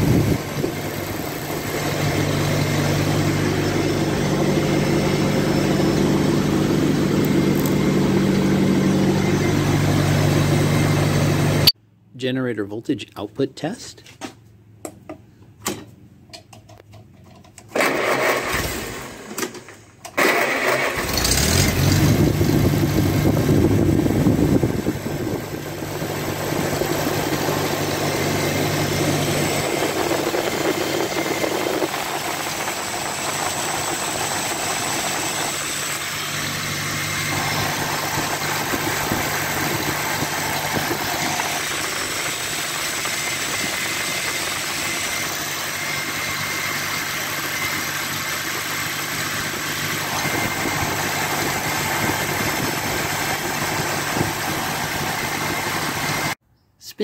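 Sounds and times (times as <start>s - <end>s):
tractor engine cranking and idling: 0.0s - 11.8s, 12.8s - 56.4s.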